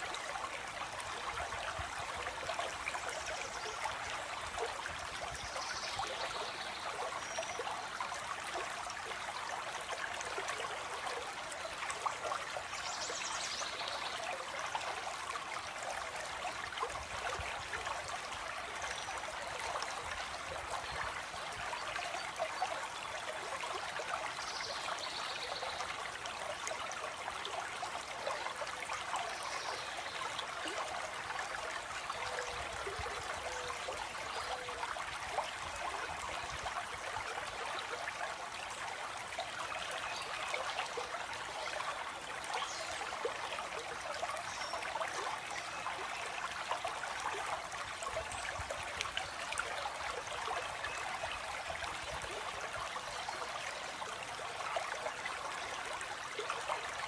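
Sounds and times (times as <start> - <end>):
shallow stream trickling: 0.0 - 57.0.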